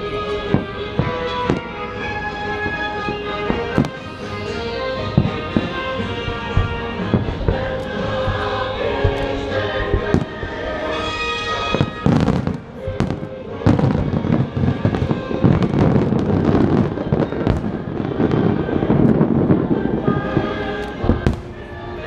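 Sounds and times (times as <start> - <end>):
fireworks booming and crackling: 0.0 - 22.0
music playing: 0.0 - 22.0.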